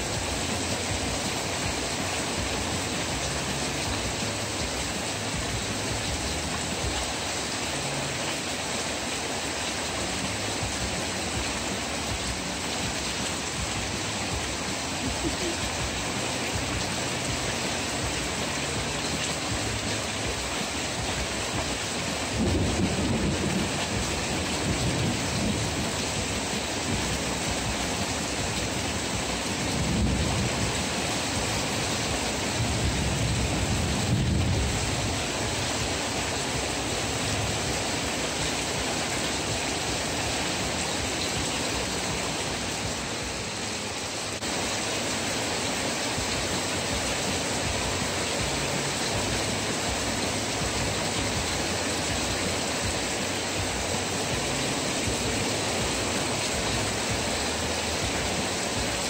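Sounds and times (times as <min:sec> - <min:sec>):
heavy rain on metal awning: 0:00.0 - 0:59.0.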